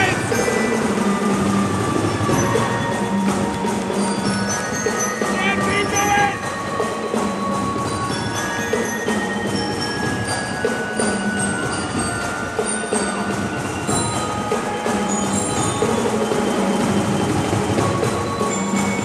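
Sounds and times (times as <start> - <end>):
drums beating: 0.0 - 19.0
glockenspiel notes: 0.0 - 19.0
marching band playing: 0.0 - 19.0.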